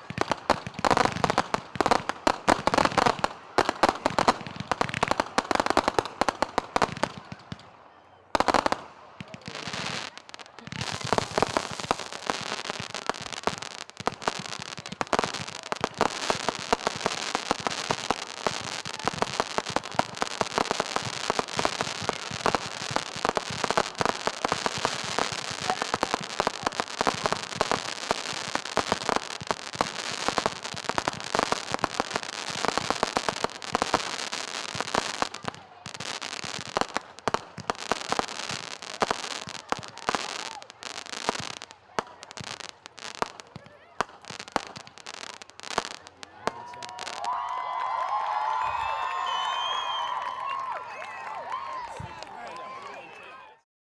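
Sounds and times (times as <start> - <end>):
fireworks crackling: 0.0 - 53.6.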